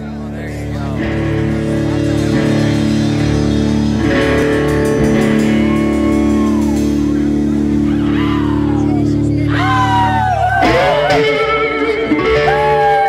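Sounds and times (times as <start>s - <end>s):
electric guitar chords ringing: 0.0s - 13.0s.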